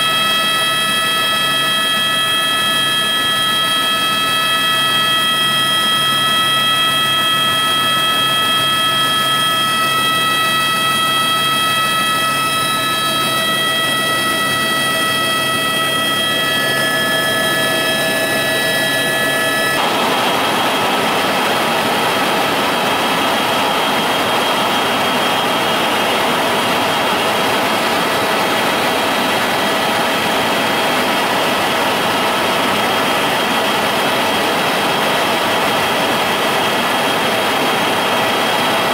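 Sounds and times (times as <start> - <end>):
engine drone with whining tones: 0.0 - 38.9.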